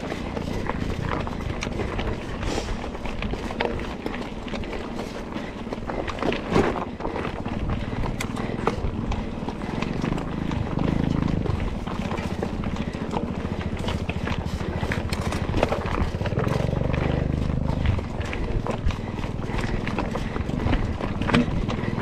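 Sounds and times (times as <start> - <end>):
bike rattling over bumps: 0.0 - 22.0
tyre and wind noise: 0.0 - 22.0.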